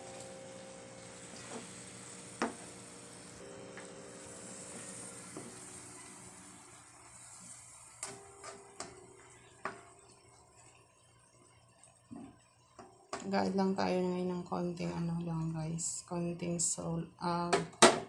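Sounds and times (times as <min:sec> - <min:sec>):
chicken sizzling in a wok: 0:00.0 - 0:18.0.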